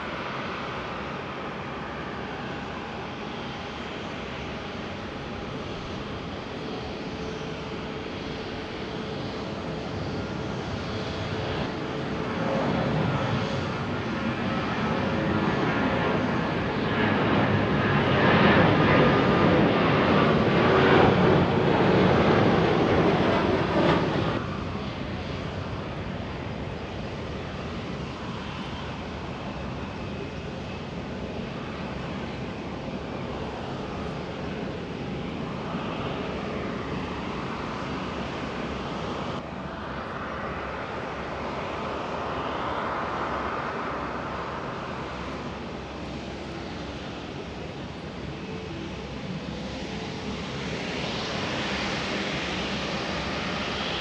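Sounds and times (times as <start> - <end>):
jet engines taxiing: 0.0 - 54.0.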